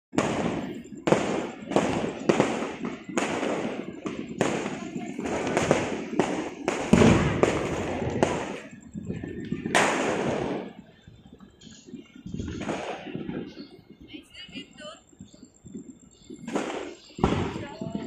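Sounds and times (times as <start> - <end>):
fireworks exploding: 0.1 - 18.0.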